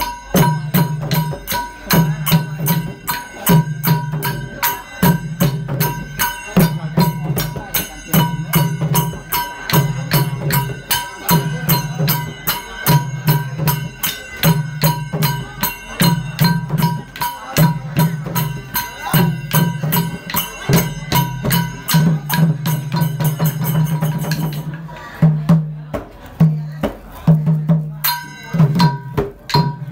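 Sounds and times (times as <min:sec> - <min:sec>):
percussion ensemble dance music: 0:00.0 - 0:29.9.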